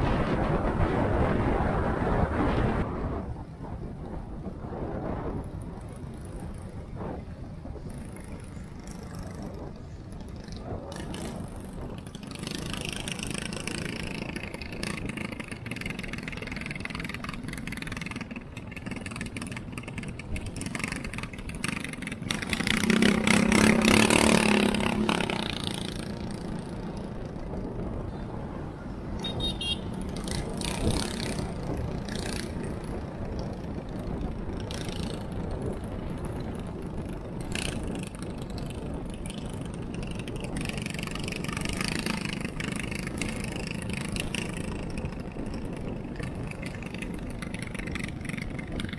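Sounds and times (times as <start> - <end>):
road and wind noise: 0.0 - 48.9
motorcycle engine running: 7.7 - 28.0, 29.2 - 48.9.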